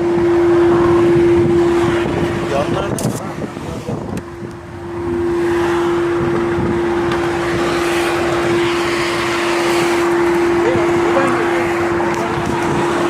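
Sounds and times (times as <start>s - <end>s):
rushing car noise: 0.0s - 13.0s
speaker buzzing hum: 0.0s - 13.0s.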